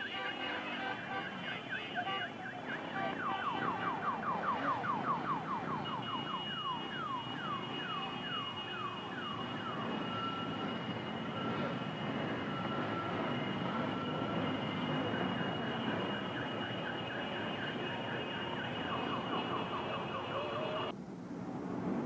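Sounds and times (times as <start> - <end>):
steady high tone: 2.9 - 20.9.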